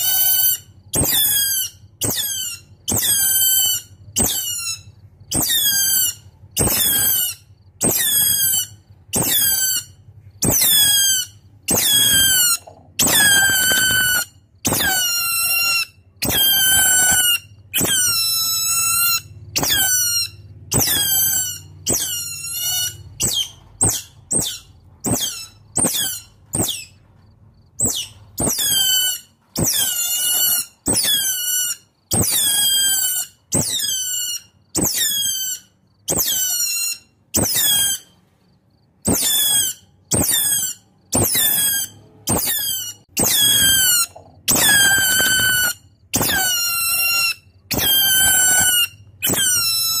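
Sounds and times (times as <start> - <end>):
otter squealing calls: 0.0 - 27.0, 27.8 - 38.2, 39.0 - 50.0.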